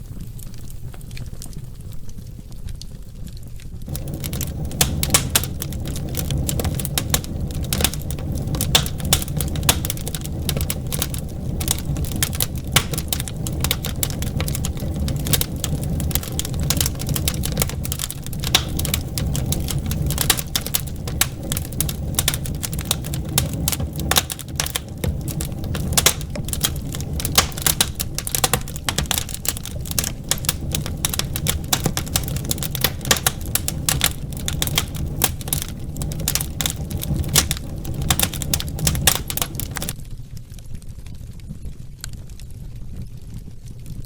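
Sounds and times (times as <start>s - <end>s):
wood fire crackling: 0.0s - 40.0s
low rumble of flames: 0.0s - 44.0s.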